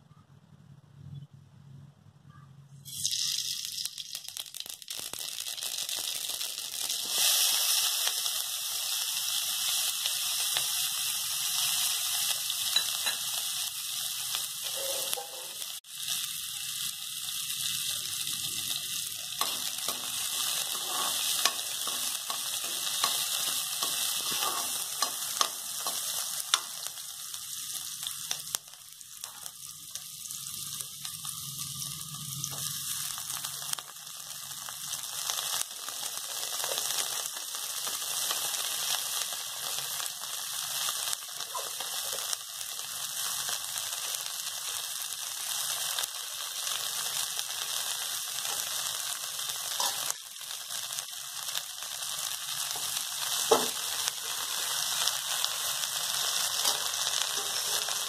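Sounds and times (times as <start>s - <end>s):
hot oil sizzling and crackling: 2.8s - 58.0s
onion sizzling while stirred: 2.8s - 58.0s.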